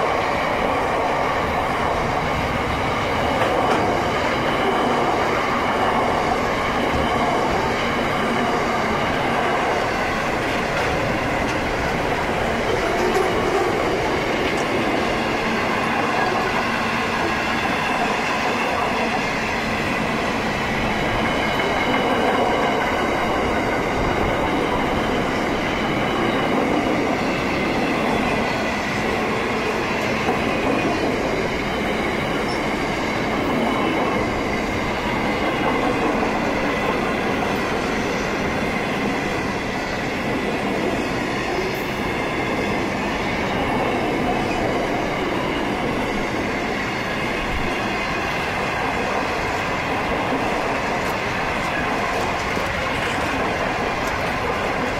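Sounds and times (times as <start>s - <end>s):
steel wheels rushing on rail: 0.0s - 54.9s.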